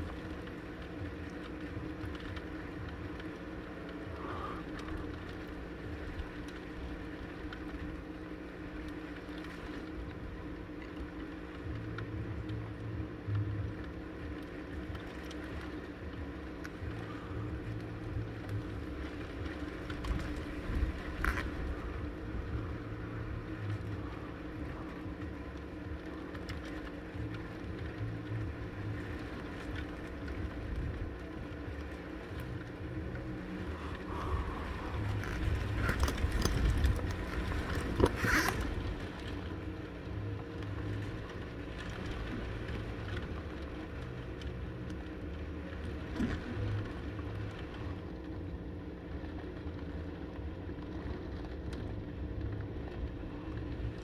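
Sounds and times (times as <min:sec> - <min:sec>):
driving rain: 0:00.0 - 0:54.0
gusting wind: 0:00.0 - 0:54.0.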